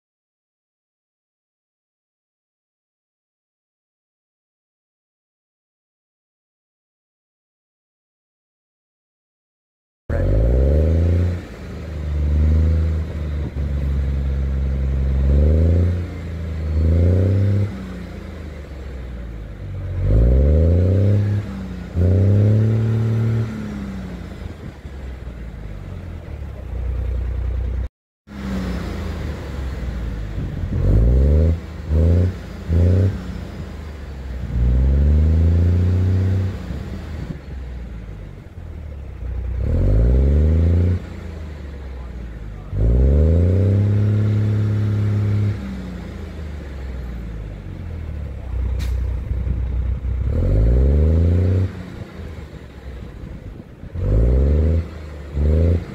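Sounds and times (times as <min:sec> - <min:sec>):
bus diesel engine accelerating: 0:10.1 - 0:55.9.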